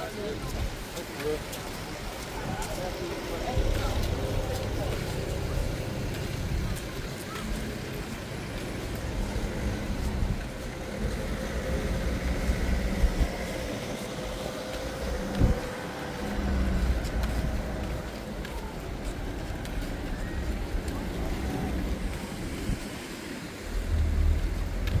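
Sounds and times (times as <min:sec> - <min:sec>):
low outdoor rumble: 0:00.0 - 0:25.0
passing vehicle engine hum: 0:01.2 - 0:25.0.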